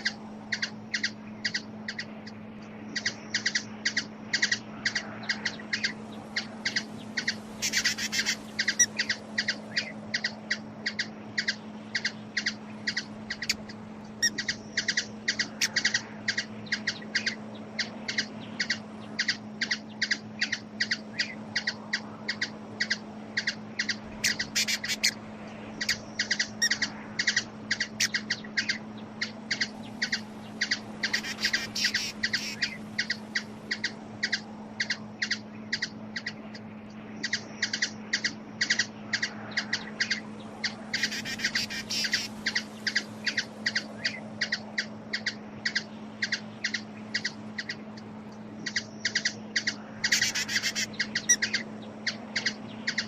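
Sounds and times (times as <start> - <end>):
hummingbird chip calls: 0.0 - 53.0
steady low hum: 0.0 - 53.0.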